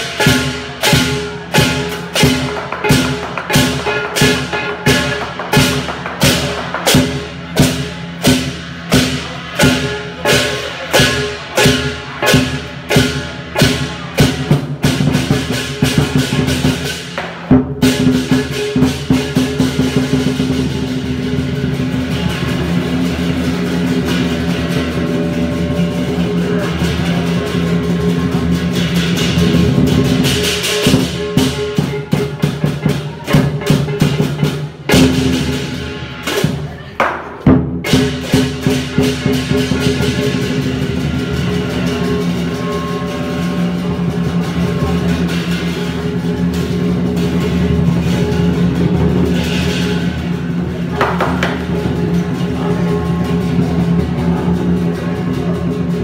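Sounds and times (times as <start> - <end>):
cymbals and gong ringing: 0.0 - 56.0
drum beats: 0.0 - 56.0.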